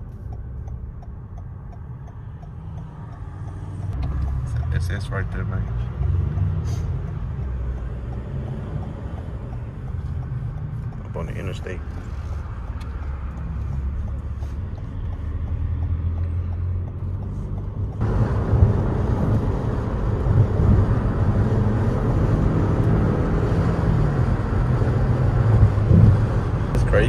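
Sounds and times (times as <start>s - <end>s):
car cabin rumble with engine hum: 0.0s - 27.0s.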